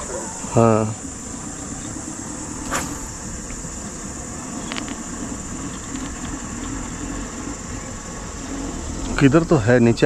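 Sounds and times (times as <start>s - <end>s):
high insect buzz: 0.0s - 10.0s
low outdoor hum: 0.0s - 10.0s.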